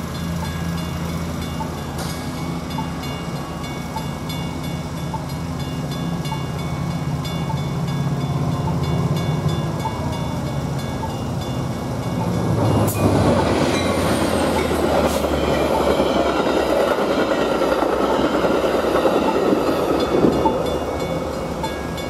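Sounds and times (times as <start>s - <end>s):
crossing bell ringing: 0.0s - 22.0s
train wheels rumbling on rail: 0.0s - 22.0s.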